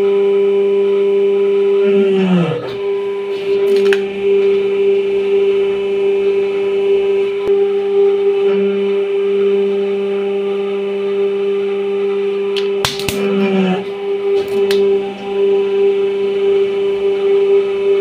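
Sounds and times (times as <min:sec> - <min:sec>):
hydraulic pump humming: 0:00.0 - 0:18.0.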